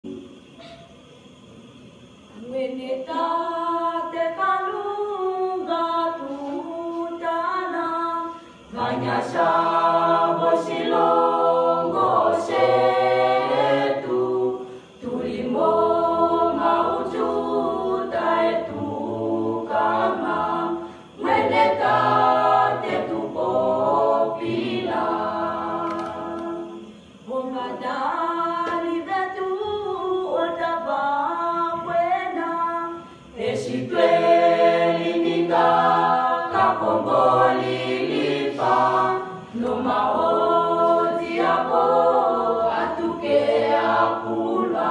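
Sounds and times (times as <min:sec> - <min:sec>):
choir singing unaccompanied: 0:02.3 - 0:44.9.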